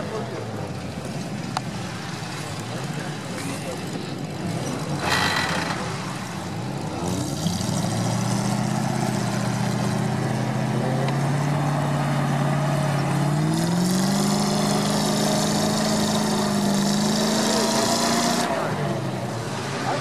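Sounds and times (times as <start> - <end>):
truck engine pulling under load: 0.0 - 20.0.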